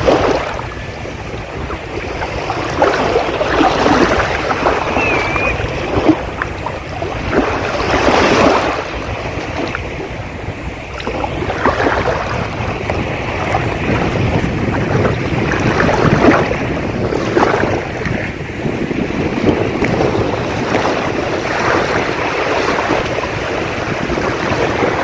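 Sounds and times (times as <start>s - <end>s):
sea waves breaking: 0.0s - 25.0s
wind rumbling on microphone: 0.0s - 25.0s.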